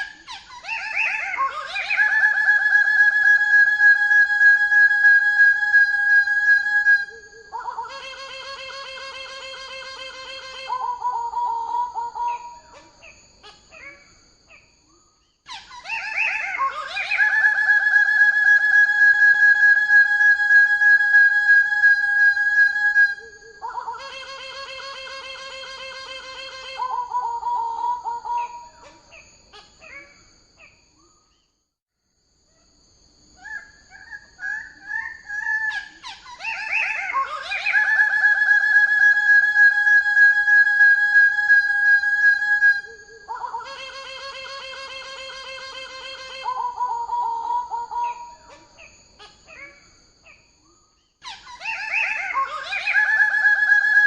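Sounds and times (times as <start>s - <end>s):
bird calling with pulsed nasal notes: 0.0s - 31.5s, 33.4s - 54.0s.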